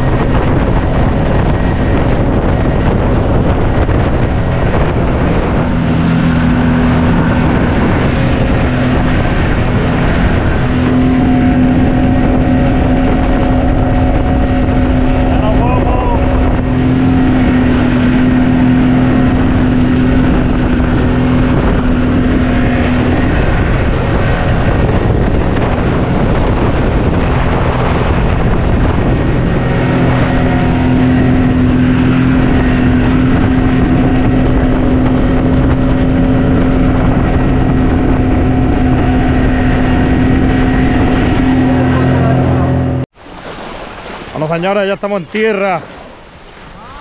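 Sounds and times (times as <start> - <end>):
outboard motor running: 0.0 - 47.0
rush of water and wind: 0.0 - 47.0.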